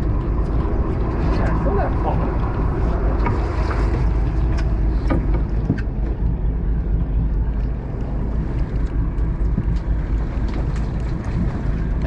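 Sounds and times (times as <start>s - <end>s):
boat engine low rumble: 0.0s - 12.0s.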